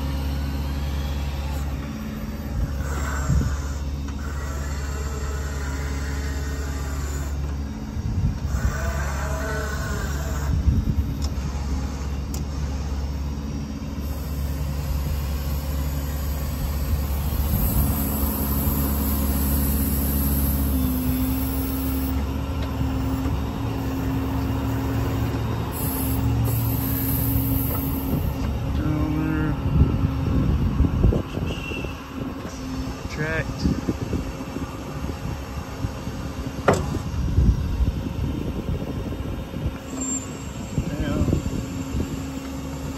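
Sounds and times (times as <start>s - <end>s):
diesel engine low hum: 0.0s - 42.9s
hydraulic pump whine: 0.0s - 42.9s.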